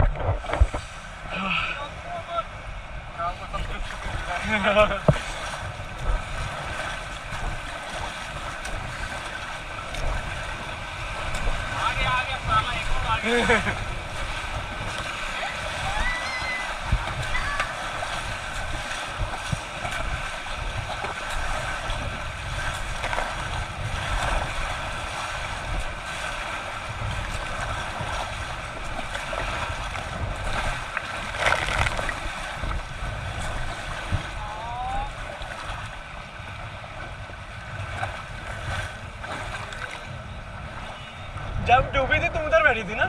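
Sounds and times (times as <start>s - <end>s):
river water rushing: 0.0s - 41.3s
wind rumble on microphone: 0.0s - 43.0s
water splash: 3.7s - 36.1s, 37.8s - 40.1s.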